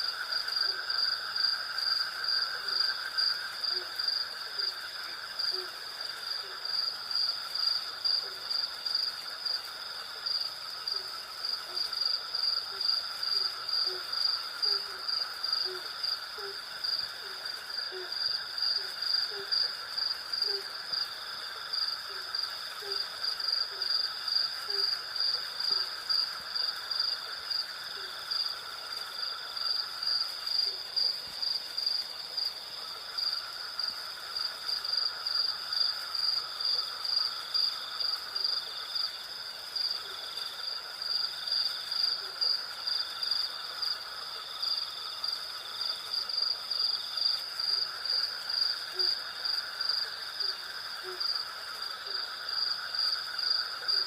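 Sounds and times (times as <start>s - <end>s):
crickets and cicadas trilling: 0.0s - 54.0s
insect buzz: 0.0s - 54.0s.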